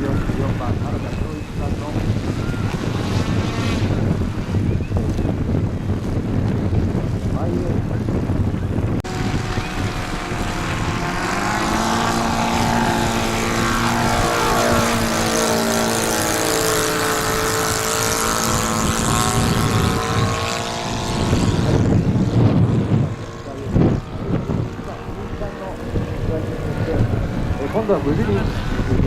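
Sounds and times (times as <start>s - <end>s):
model plane propeller engine: 0.0s - 29.0s.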